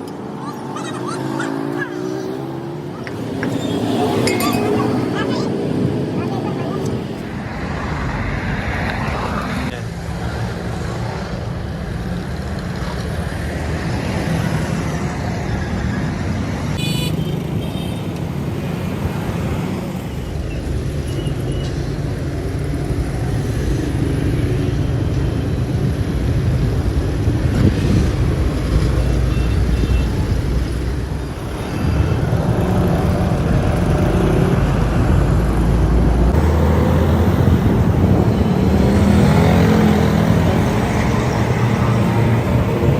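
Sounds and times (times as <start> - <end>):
vehicle engines rumbling: 0.0 - 42.9.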